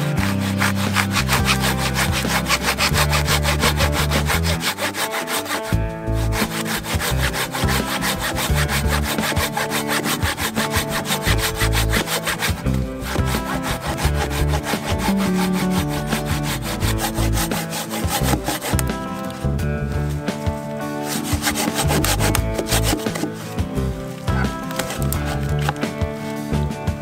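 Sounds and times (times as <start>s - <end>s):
hand saw cutting wood: 0.0s - 19.6s, 20.9s - 26.5s.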